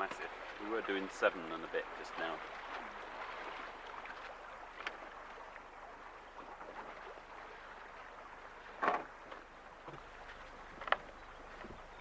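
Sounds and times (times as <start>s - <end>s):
water rushing past boat hull: 0.0s - 12.0s.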